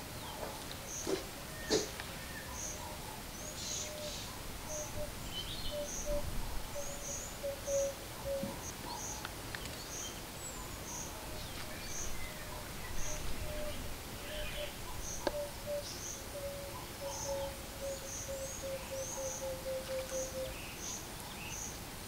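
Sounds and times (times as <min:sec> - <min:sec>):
birds calling: 0:00.0 - 0:21.8.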